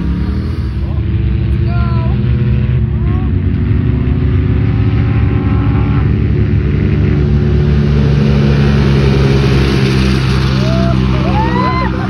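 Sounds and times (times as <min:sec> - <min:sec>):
off-road vehicle engines rumbling: 0:00.0 - 0:12.0.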